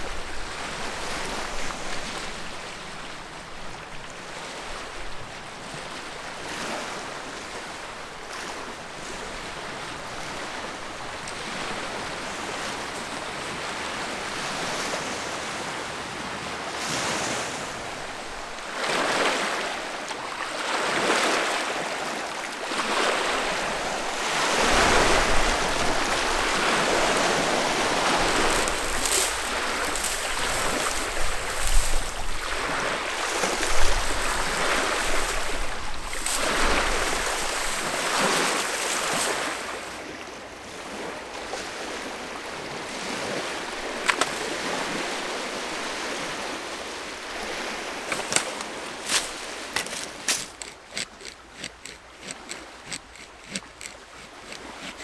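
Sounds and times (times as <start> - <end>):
waves breaking on rocky shore: 0.0 - 55.0.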